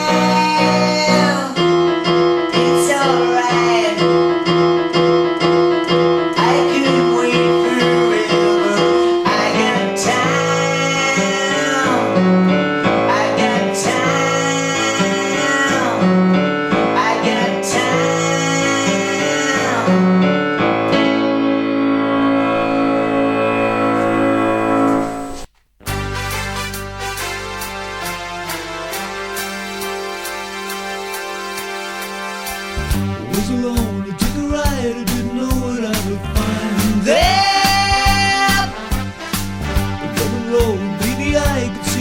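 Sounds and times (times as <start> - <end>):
piano-led rock music: 0.0 - 42.0.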